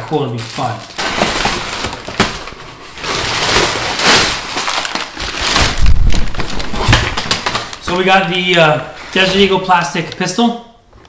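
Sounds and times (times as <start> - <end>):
packing paper crackling and rustling: 0.2 - 10.4.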